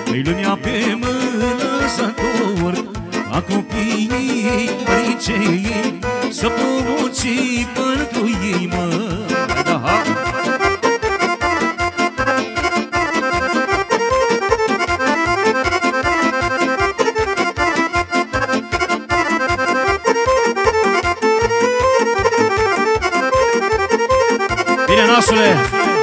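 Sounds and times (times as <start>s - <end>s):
accordion party music: 0.0s - 26.0s.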